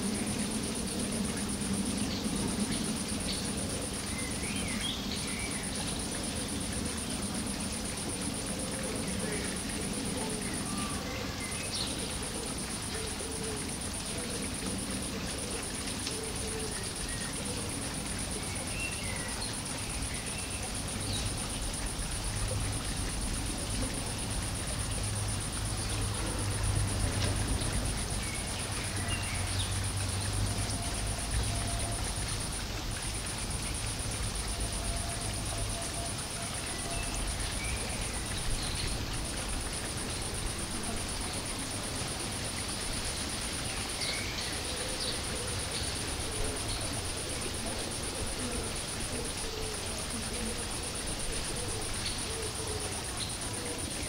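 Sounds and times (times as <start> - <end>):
high-pitched insect-like whine: 0.0 - 54.0.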